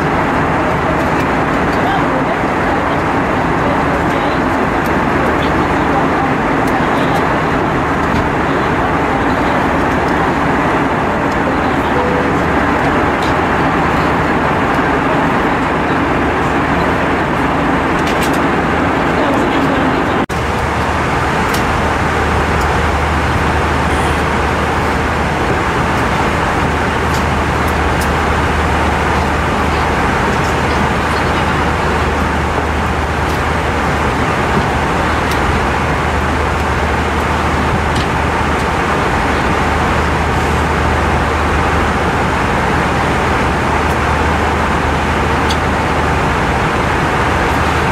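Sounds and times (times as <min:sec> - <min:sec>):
airplane cabin airflow and engine: 0:00.0 - 0:47.9.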